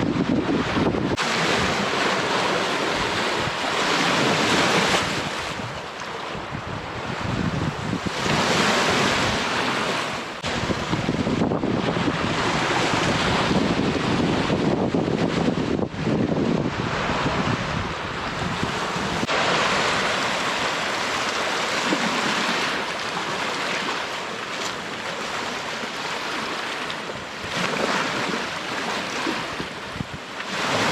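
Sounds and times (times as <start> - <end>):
wind on microphone: 0.0 - 24.0, 24.6 - 30.9
sea waves washing ashore: 0.0 - 30.9.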